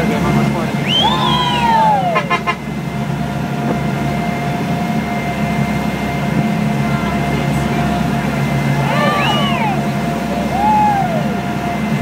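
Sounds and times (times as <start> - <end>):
speedboat engines running: 0.0 - 12.0
water rushing: 0.0 - 12.0.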